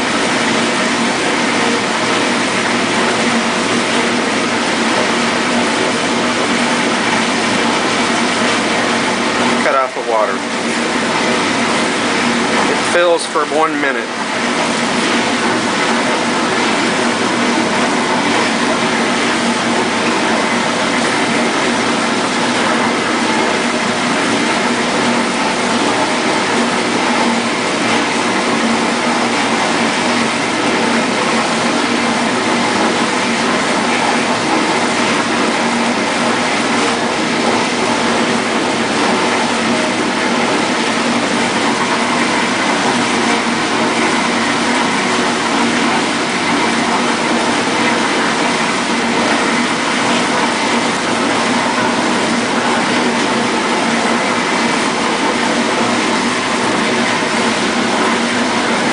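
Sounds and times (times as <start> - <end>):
dishwasher motor hum: 0.0 - 58.9
water spraying inside tub: 0.0 - 58.9.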